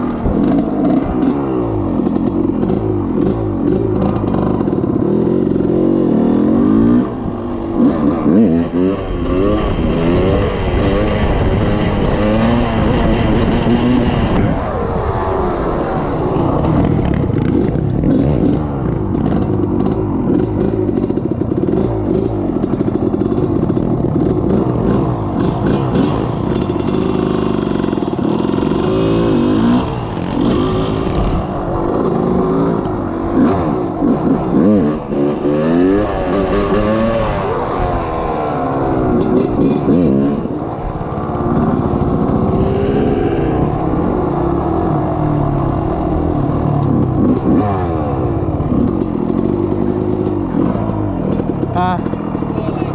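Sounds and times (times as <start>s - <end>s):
quad engine revving: 0.0s - 52.9s.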